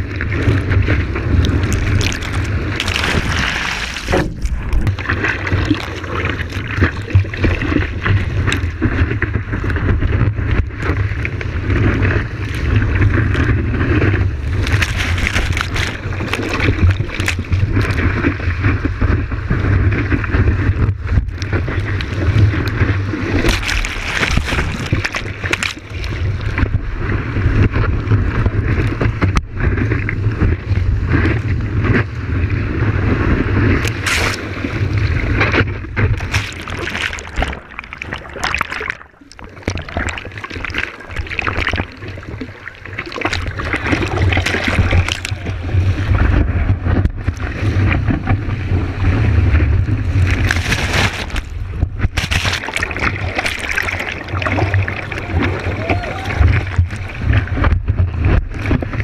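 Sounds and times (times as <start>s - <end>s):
whitewater rushing and splashing: 0.0s - 10.0s, 10.7s - 19.5s, 21.3s - 29.8s, 33.5s - 59.0s.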